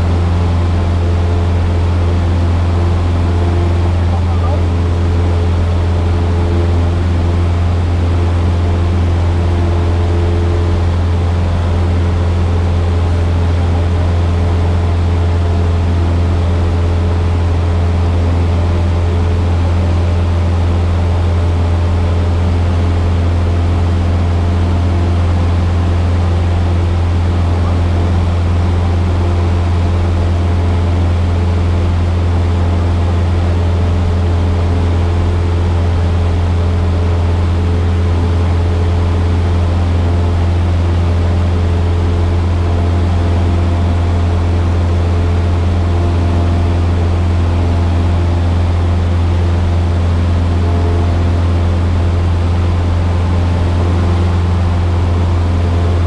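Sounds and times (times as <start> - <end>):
plane engine droning: 0.0 - 56.0.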